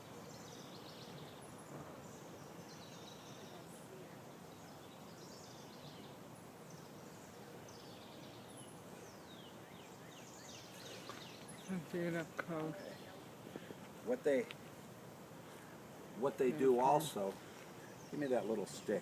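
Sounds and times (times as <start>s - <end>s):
low background hiss: 0.0s - 19.0s
small birds chirping: 0.0s - 19.0s.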